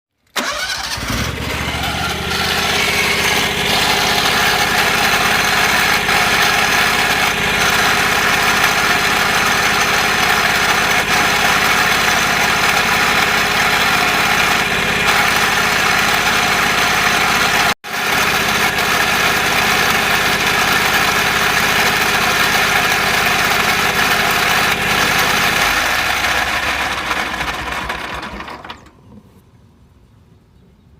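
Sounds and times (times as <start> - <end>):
mower engine running: 0.4 - 29.4.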